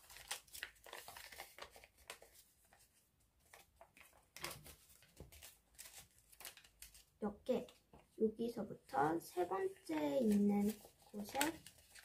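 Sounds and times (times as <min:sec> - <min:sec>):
paper rustling and crinkling: 0:00.0 - 0:08.2, 0:09.1 - 0:12.0.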